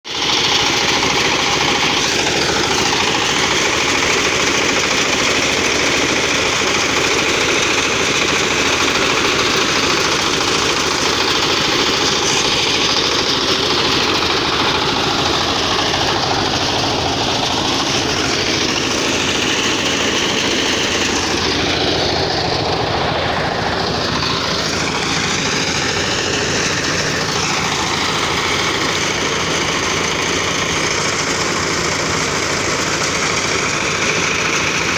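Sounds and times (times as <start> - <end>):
diesel engine running loudly: 0.0 - 34.9
threshing machine: 0.1 - 34.9.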